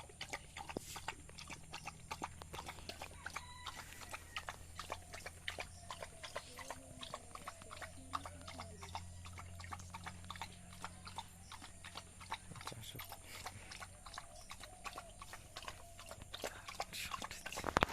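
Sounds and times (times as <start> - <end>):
dog chewing food: 0.0 - 17.9.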